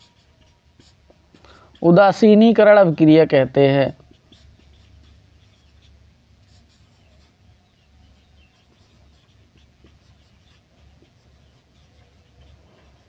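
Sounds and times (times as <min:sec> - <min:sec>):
marker squeaking on whiteboard: 0:00.0 - 0:13.0.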